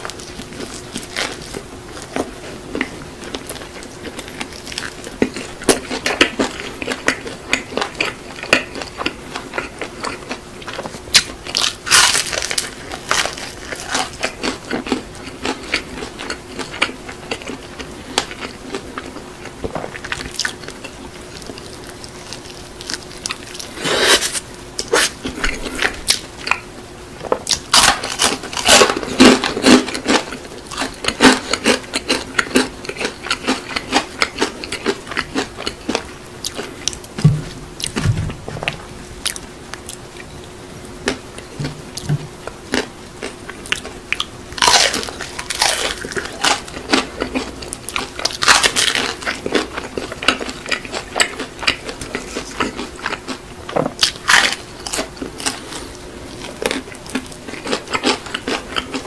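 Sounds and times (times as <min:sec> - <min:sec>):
chewing crispy fried chicken: 0:00.0 - 0:59.0.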